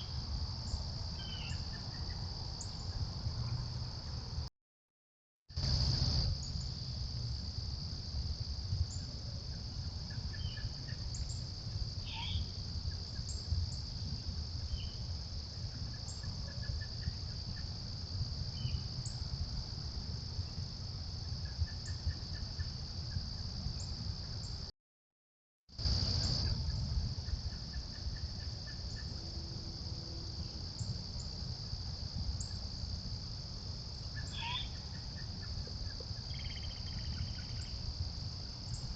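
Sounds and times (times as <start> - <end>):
insects chirring: 0.0 - 4.4, 5.5 - 24.7, 25.8 - 38.9.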